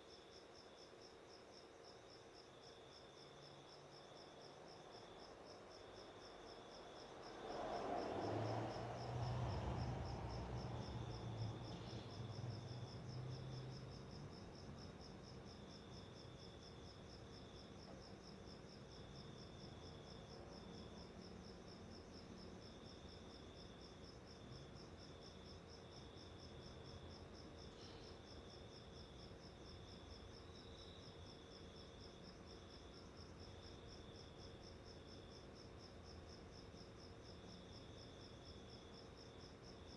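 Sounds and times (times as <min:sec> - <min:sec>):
higher insect chirping: 0:00.0 - 0:39.9
insect trill: 0:00.0 - 0:39.9.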